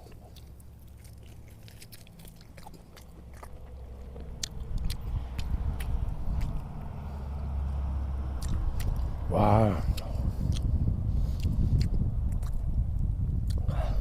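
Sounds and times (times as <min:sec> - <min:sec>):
person chewing with mouth clicks: 0:00.0 - 0:06.9, 0:08.4 - 0:14.0
low rumble: 0:00.0 - 0:14.0.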